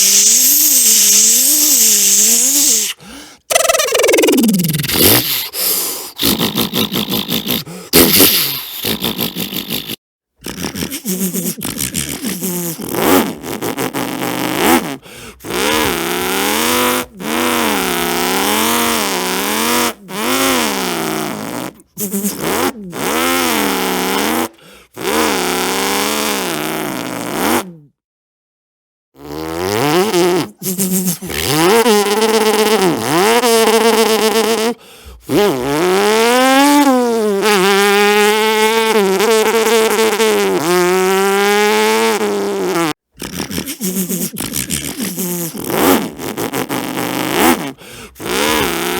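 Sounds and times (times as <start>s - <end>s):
man making engine mouth noises: 0.0s - 27.9s, 29.2s - 48.9s.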